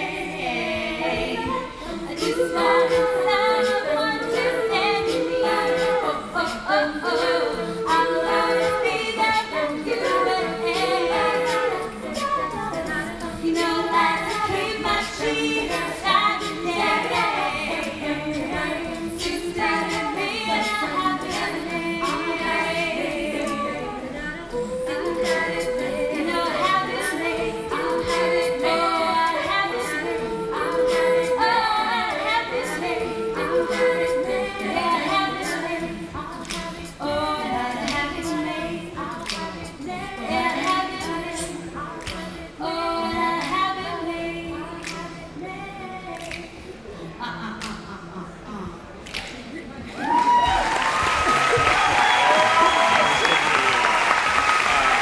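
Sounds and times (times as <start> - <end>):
female lead voice singing: 0.0 - 52.6
sung backing harmonies: 0.0 - 55.0.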